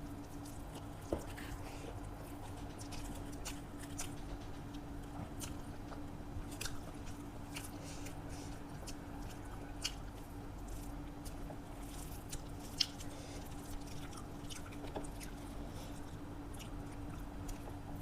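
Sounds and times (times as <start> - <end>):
person chewing food: 0.0 - 18.0
steady low hum: 0.0 - 18.0.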